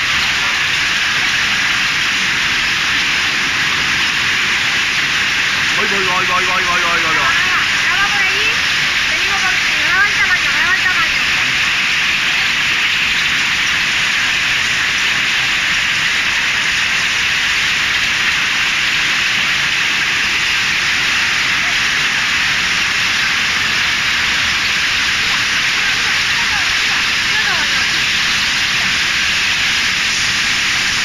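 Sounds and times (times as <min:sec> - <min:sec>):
hail and rain on pavement: 0:00.0 - 0:31.0.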